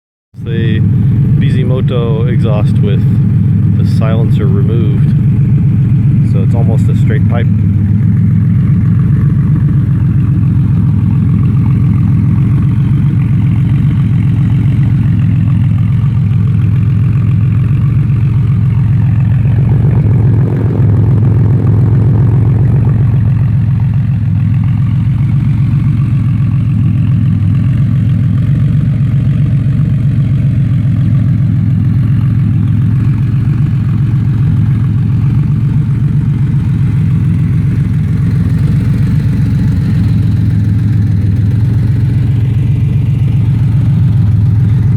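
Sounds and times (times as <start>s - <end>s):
car engine idling loudly: 0.4s - 44.9s.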